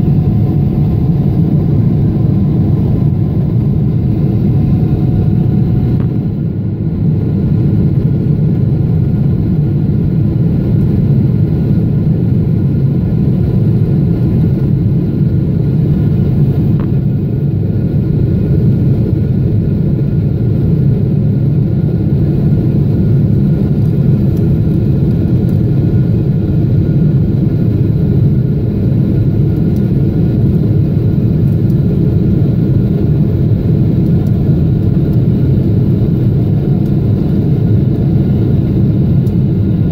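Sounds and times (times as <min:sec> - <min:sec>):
faint steady whine: 0:00.0 - 0:39.9
jet engine rumble: 0:00.0 - 0:39.9.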